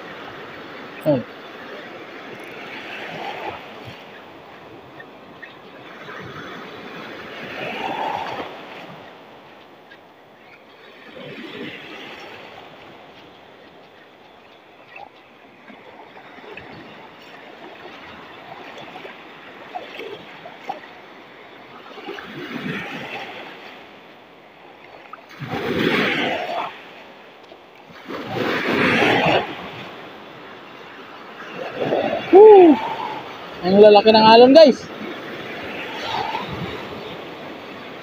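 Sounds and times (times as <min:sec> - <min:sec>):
surf washing in and out: 0:00.0 - 0:38.0
waves breaking: 0:00.0 - 0:38.0.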